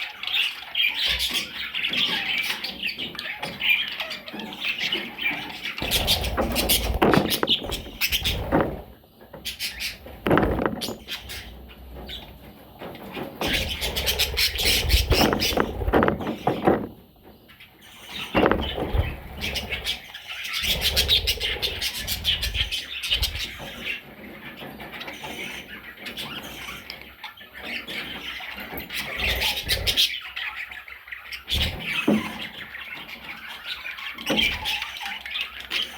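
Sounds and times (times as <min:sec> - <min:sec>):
budgerigars chirping: 0:00.0 - 0:35.9.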